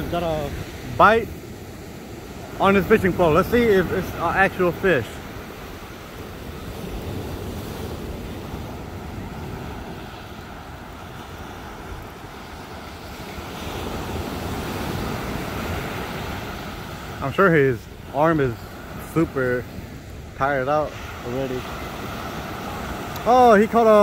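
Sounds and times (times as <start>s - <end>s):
ocean surf breaking: 0.0s - 24.0s
wind rumbling on microphone: 0.0s - 24.0s.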